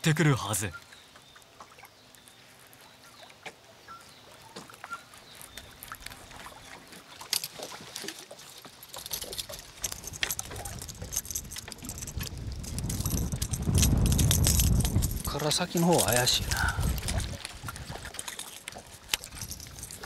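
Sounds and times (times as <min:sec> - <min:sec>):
water lapping against hull: 0:00.0 - 0:20.0.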